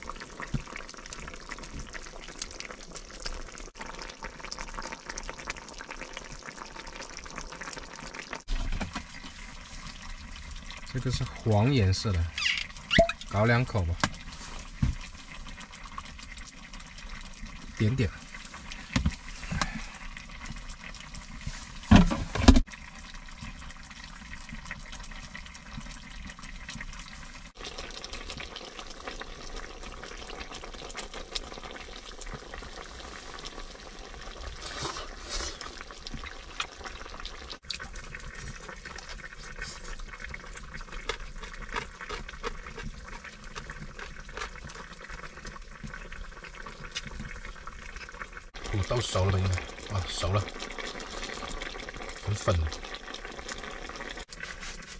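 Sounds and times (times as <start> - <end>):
food sizzling on a stove: 0.0 - 41.0, 43.0 - 54.9.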